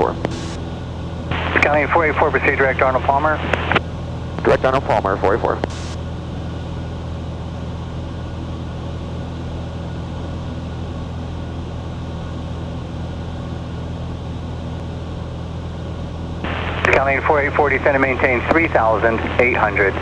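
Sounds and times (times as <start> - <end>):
airplane propeller engine droning: 0.0 - 20.0.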